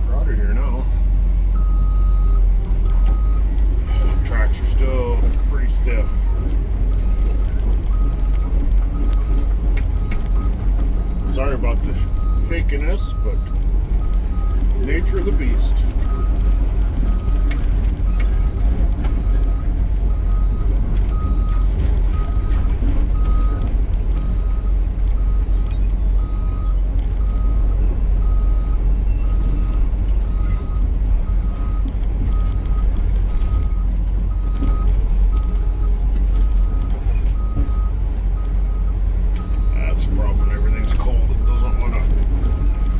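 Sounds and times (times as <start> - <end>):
diesel engine rumbling: 0.0 - 42.9
travel alarm beeping: 1.6 - 11.4, 12.0 - 16.5, 19.2 - 42.9.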